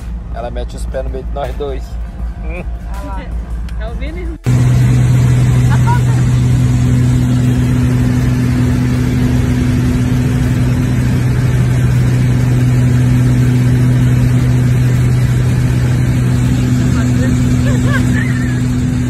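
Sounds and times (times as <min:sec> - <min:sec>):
aircraft engine cabin drone: 0:00.0 - 0:19.0.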